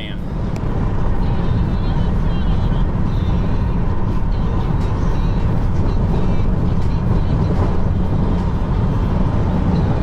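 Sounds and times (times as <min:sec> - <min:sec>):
car road rumble inside cabin: 0:00.0 - 0:10.0.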